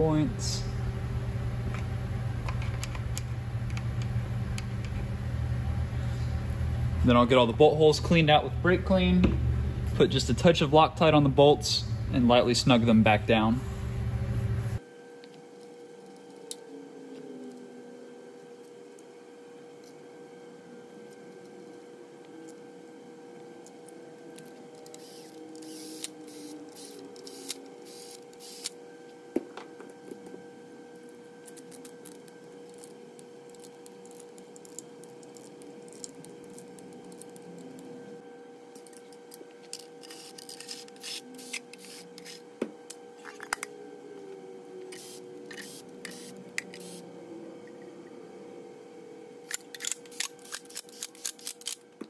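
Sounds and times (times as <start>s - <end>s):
faint hum: 0.0s - 52.0s.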